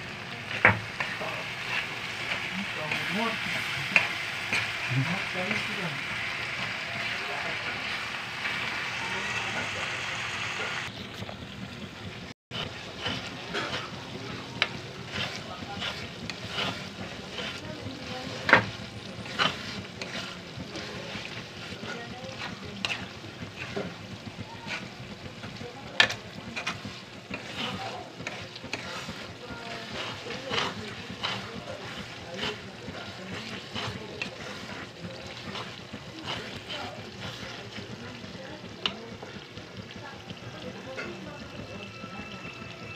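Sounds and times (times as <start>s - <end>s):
sauce frying in a pan: 0.0s - 42.9s
spoon scraping a pan: 0.4s - 10.9s, 12.5s - 39.3s.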